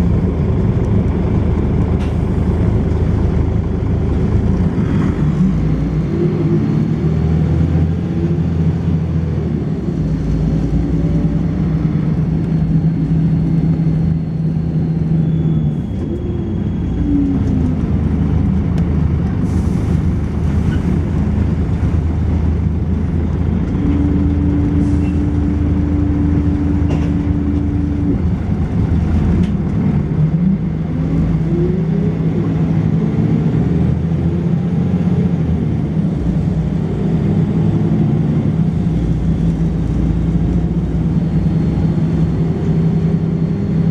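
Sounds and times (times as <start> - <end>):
bus engine changing gears: 0.0 - 43.9.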